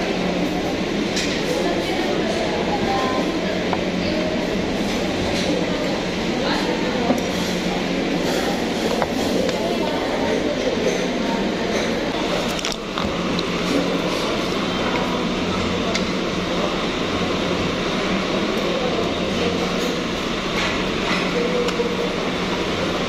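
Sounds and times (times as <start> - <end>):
air conditioning hum: 0.0 - 23.0
faint background chatter: 0.0 - 23.0.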